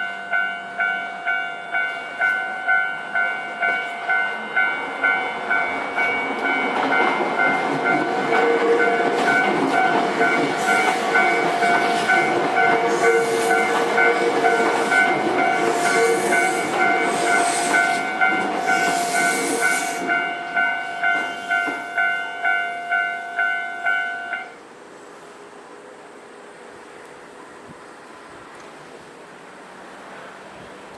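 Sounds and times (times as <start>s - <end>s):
train rumbling and clattering: 0.0s - 30.9s.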